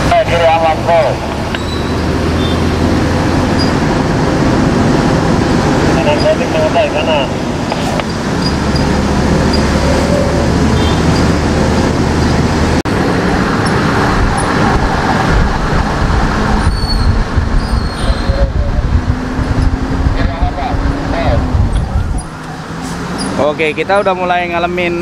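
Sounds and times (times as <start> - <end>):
truck diesel engine humming: 0.0 - 25.0.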